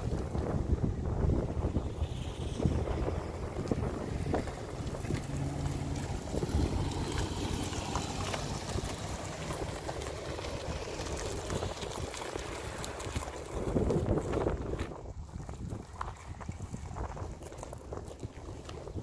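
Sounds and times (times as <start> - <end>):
car engine driving slowly past: 0.0 - 19.0.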